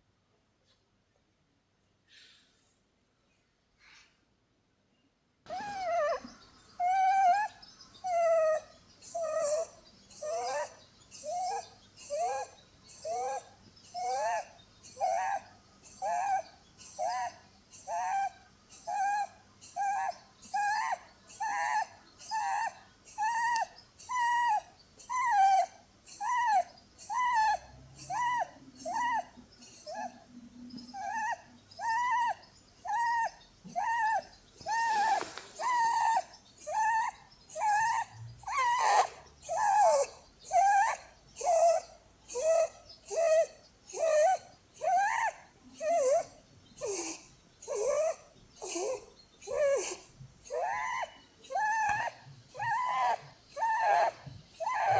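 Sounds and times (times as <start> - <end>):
rabbit snoring with whistling squeaks: 5.5 - 54.9.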